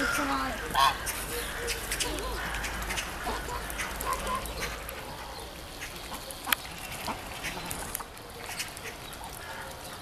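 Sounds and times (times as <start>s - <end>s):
geese and ducks calling: 0.0s - 10.0s.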